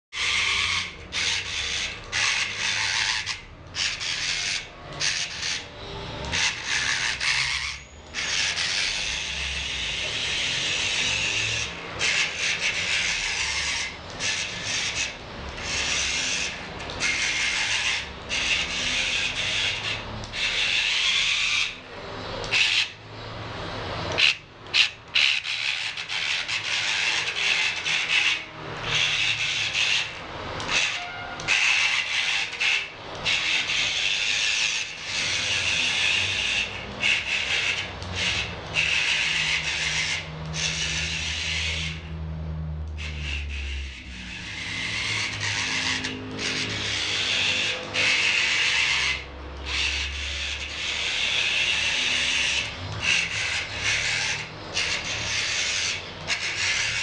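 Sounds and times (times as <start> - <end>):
small motor and gears whirring: 0.1 - 57.0.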